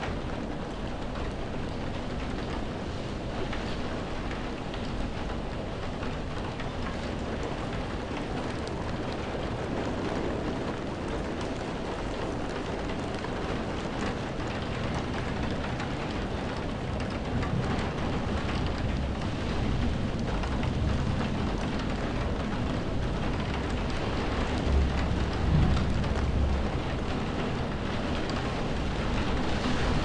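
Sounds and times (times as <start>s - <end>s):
rain hitting window glass: 0.0s - 30.0s
wind: 0.0s - 30.0s.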